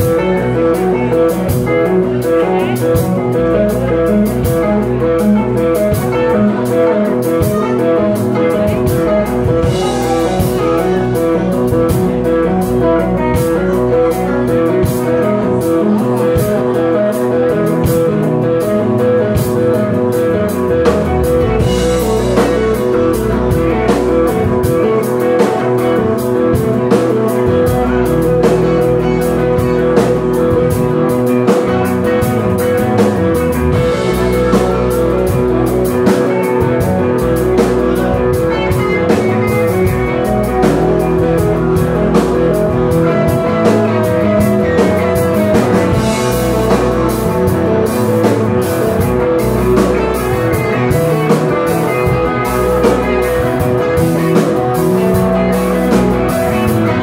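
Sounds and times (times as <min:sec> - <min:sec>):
bass guitar: 0:00.0 - 0:57.0
drum kit: 0:00.0 - 0:57.0
electric guitars: 0:00.0 - 0:57.0.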